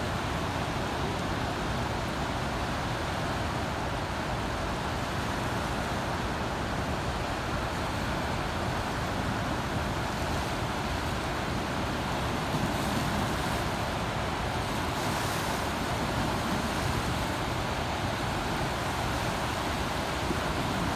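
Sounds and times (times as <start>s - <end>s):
flood water rushing through spillway: 0.0s - 20.9s
turbulent river churning: 0.0s - 20.9s.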